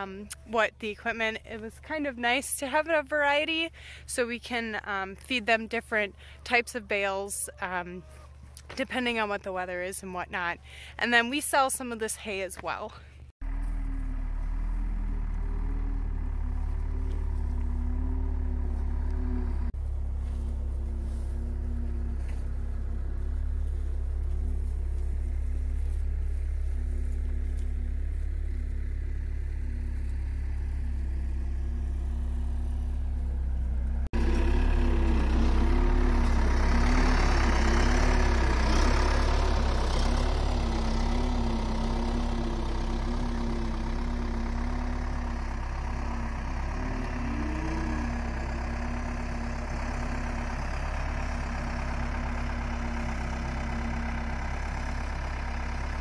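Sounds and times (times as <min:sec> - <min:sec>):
diesel loader engine running: 0:00.0 - 0:56.0.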